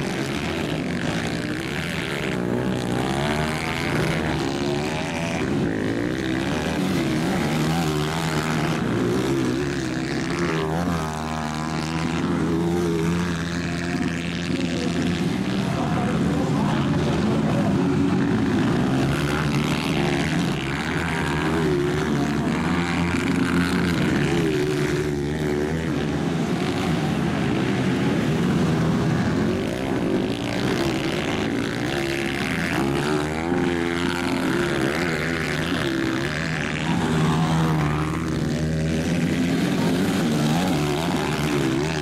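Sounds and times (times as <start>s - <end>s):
dirt bike engines racing: 0.0s - 42.0s.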